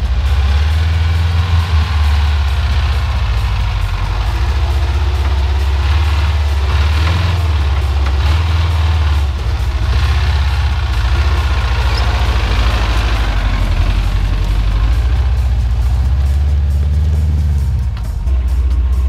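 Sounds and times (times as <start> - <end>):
engine running under load: 0.0 - 19.0.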